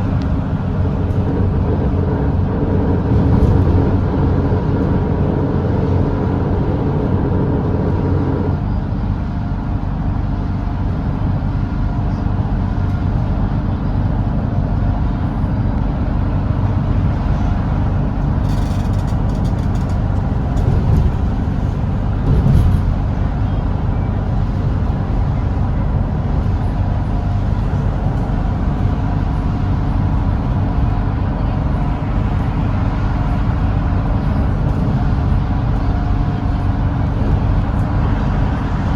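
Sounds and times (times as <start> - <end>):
bus diesel engine running: 0.0 - 38.9
road noise: 0.0 - 38.9.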